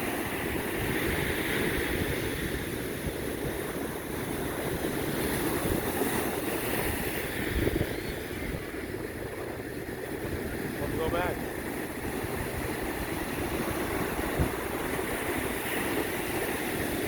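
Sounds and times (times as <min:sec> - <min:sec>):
ocean surf washing up: 0:00.0 - 0:17.0
wind rumbling on microphone: 0:00.0 - 0:17.0.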